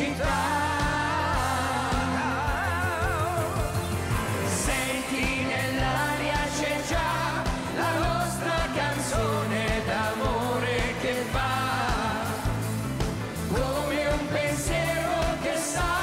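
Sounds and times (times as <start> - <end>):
live pop song with band: 0.0 - 16.0.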